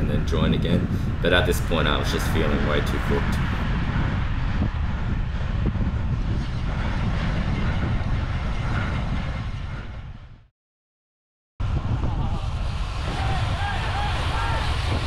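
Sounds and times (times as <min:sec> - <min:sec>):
wind and road noise: 0:00.0 - 0:10.5, 0:11.6 - 0:15.0.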